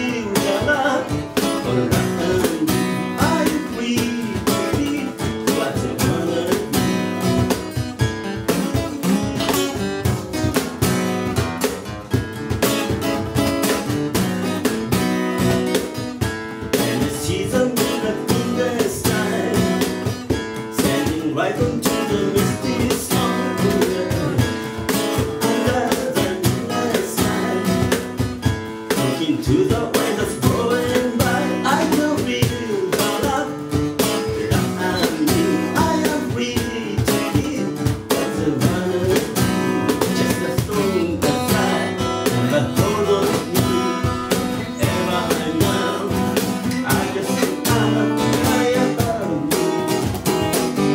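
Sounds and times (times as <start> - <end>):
man singing: 0.0 - 9.7, 16.7 - 50.9
acoustic guitar strumming: 0.0 - 50.9
cajon beat: 0.0 - 50.9.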